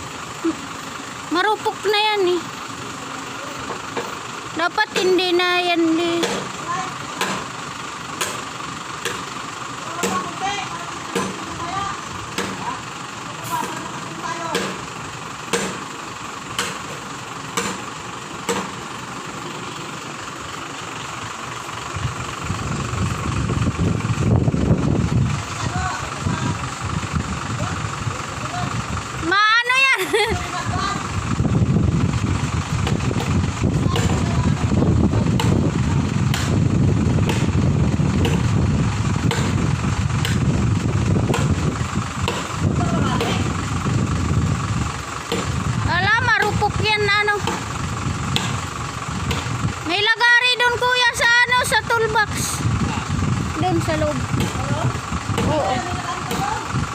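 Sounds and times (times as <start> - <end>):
deep rumble: 0.0 - 56.9
truck engine idling: 0.0 - 56.9.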